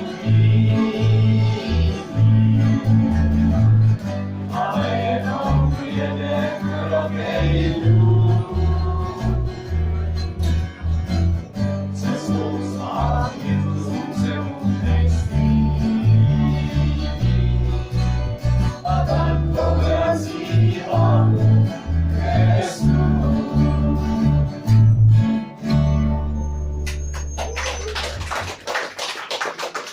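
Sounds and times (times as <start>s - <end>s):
acoustic guitar strumming: 0.0s - 27.6s.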